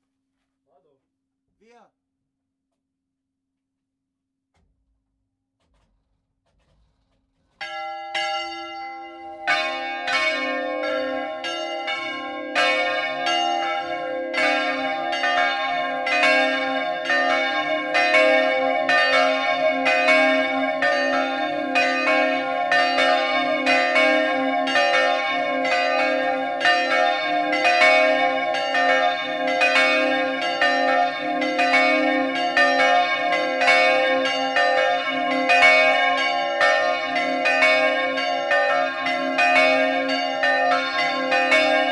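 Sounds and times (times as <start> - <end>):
church bells ringing: 7.6 - 41.9.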